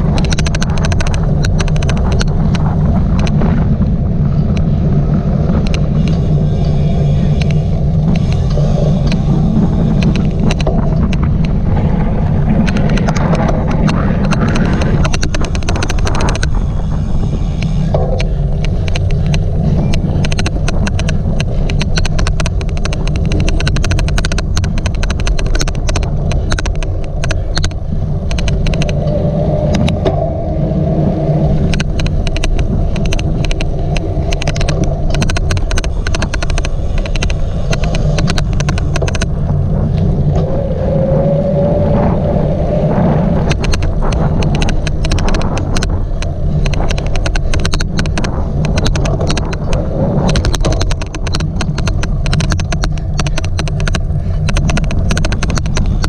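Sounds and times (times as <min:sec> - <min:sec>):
bike clicks and rattles: 0:00.0 - 0:56.0
wind and tyre rumble: 0:00.0 - 0:56.0.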